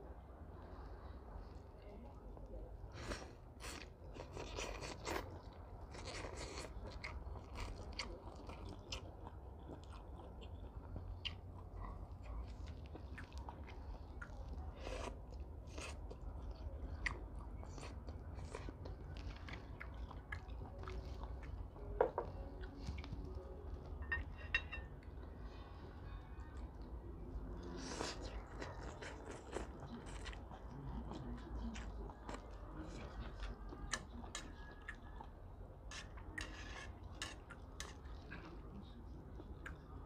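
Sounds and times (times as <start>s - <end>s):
person chewing noodles: 2.9s - 23.4s, 27.4s - 40.0s.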